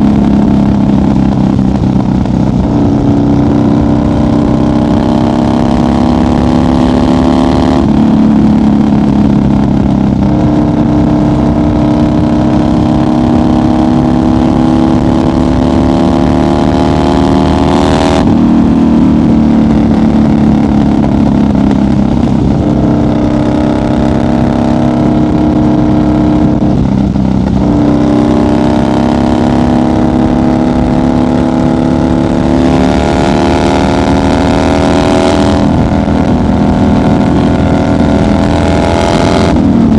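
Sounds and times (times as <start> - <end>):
motorcycle engine at highway speed: 0.0 - 39.9.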